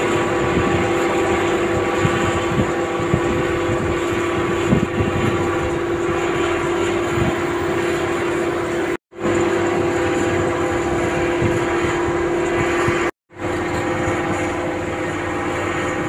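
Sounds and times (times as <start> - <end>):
excavator engine and hydraulic drone: 0.0 - 16.0.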